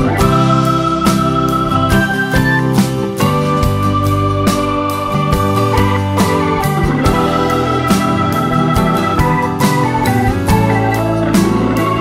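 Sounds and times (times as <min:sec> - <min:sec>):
sharp drum-like hits: 0:00.0 - 0:11.9
held music chords: 0:00.0 - 0:12.0.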